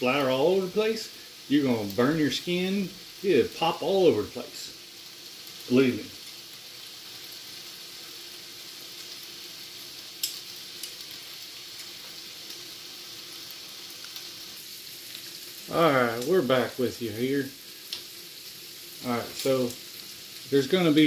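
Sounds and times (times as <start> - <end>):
bacon sizzling on a griddle: 0.0 - 21.0.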